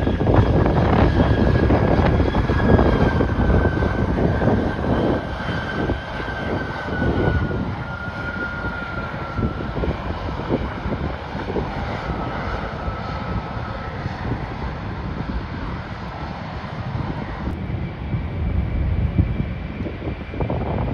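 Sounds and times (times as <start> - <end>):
airliner engines whining: 0.0 - 20.9
wind buffeting microphone: 0.0 - 20.9.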